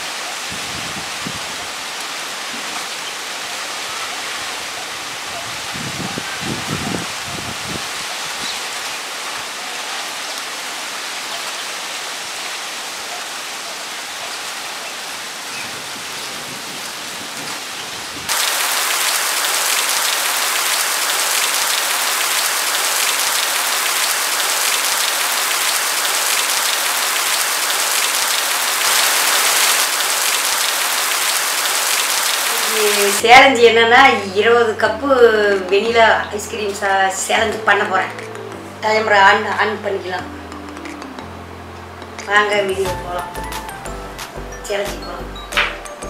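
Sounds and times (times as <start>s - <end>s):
steady rain: 0.0s - 44.8s.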